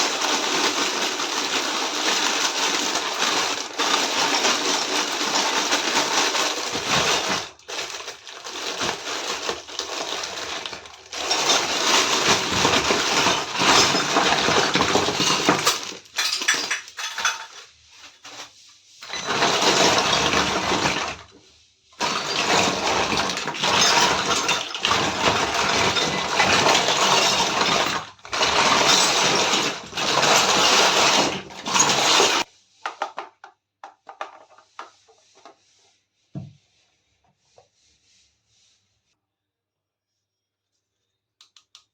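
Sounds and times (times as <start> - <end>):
toy set rustling and clattering: 0.0 - 21.4, 22.0 - 35.8.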